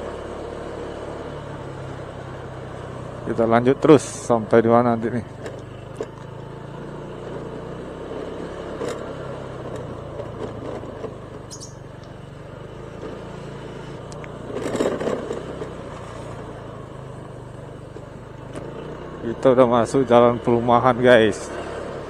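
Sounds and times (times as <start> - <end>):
road and wind noise: 0.0 - 22.0
scooter engine running: 0.0 - 22.0.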